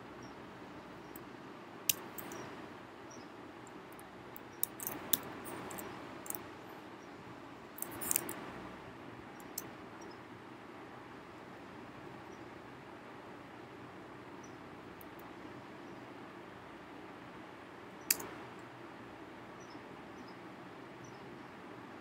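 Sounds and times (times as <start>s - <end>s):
faint room tone hiss: 0.0s - 22.0s.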